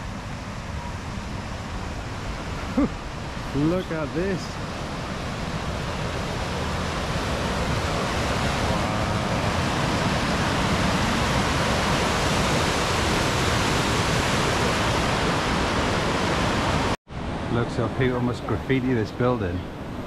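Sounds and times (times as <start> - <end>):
river rapids roaring: 0.0 - 20.0.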